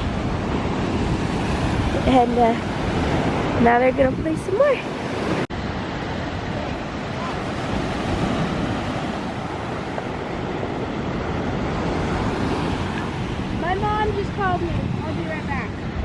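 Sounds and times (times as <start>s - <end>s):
ocean surf on a beach: 0.0s - 16.0s
wind on the microphone: 0.0s - 16.0s.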